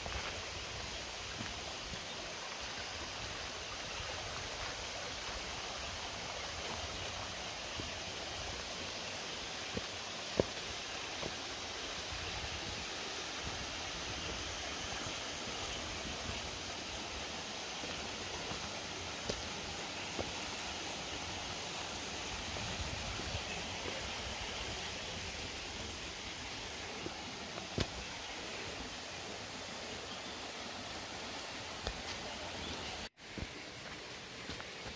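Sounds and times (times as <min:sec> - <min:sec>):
stream running over stones: 0:00.0 - 0:34.9.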